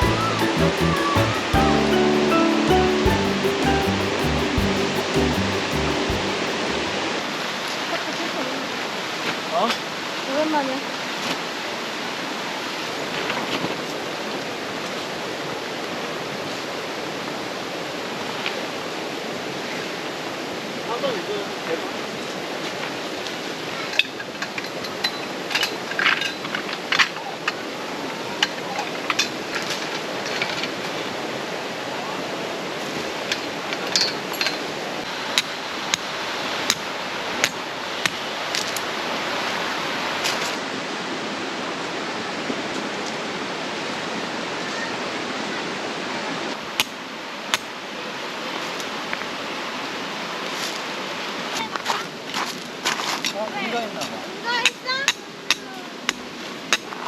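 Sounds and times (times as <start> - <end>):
creek rushing: 0.0 - 24.4, 26.7 - 52.8.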